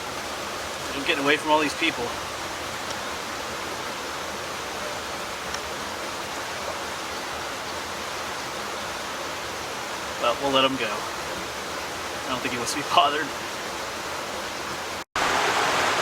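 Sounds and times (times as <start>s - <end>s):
water rushing over rapids: 0.0s - 16.0s.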